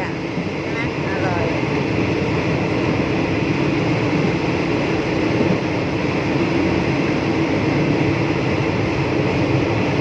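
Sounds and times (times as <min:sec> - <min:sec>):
train running noise: 0:00.0 - 0:10.0.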